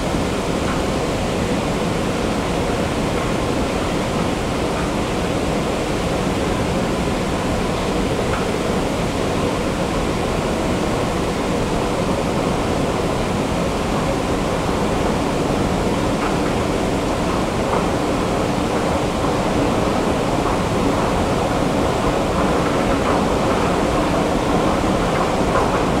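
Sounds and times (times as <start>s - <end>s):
faint machinery hum: 0.0s - 26.0s.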